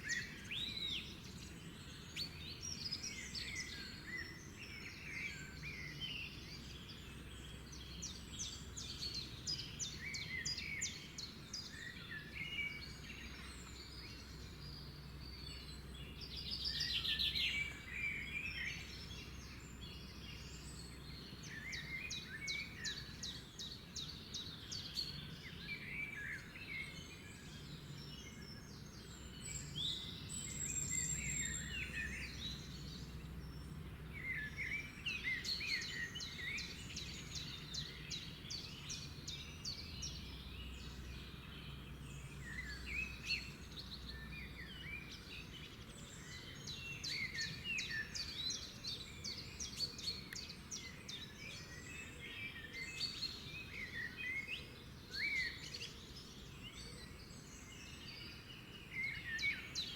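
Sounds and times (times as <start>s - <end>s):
wild birds chirping and trilling: 0.0s - 59.9s.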